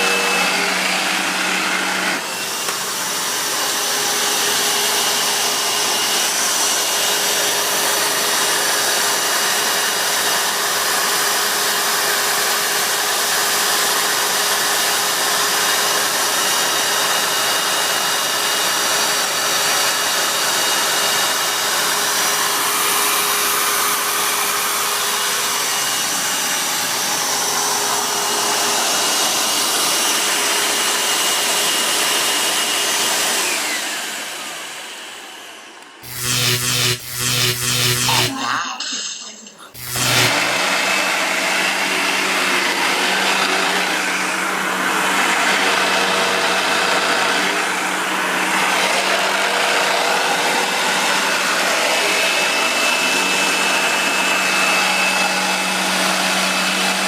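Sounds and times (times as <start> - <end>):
vacuum cleaner motor whining: 0.0 - 38.6, 39.7 - 57.0.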